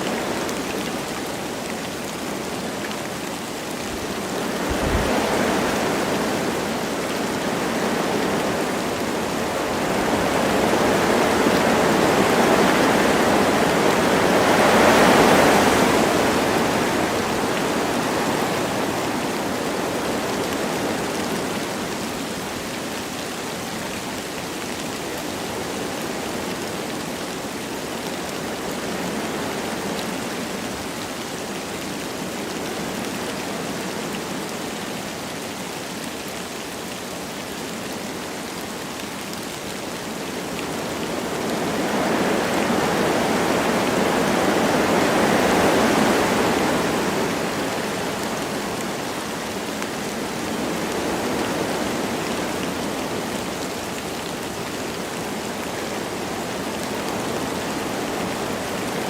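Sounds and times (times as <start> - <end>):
light rain: 0.0 - 59.0
wind through forest trees: 0.0 - 59.0.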